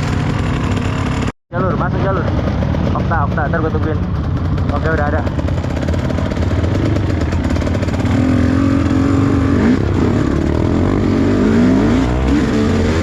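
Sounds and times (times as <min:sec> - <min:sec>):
motorcycle engine under throttle: 0:00.0 - 0:13.0.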